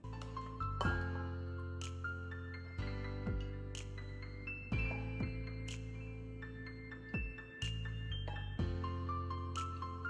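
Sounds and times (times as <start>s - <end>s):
soft background music chords: 0.0s - 10.0s.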